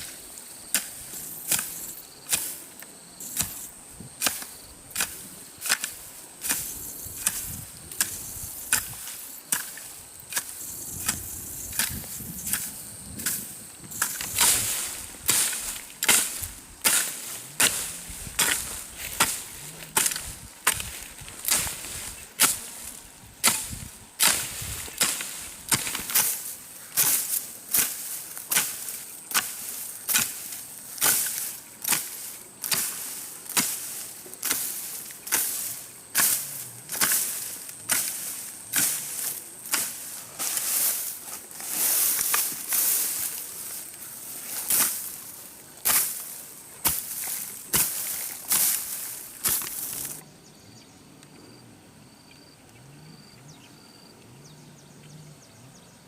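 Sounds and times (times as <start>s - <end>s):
tool scraping soil: 0.0s - 50.2s
faint insects: 0.0s - 56.0s
digging tool chopping into soil: 0.7s - 2.6s, 3.2s - 43.8s, 44.5s - 50.2s.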